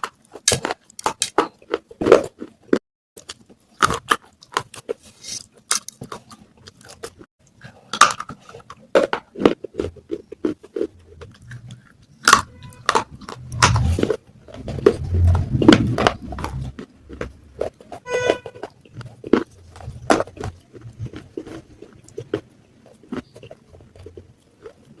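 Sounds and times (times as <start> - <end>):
clay pot pieces crunching: 0.0 - 25.0.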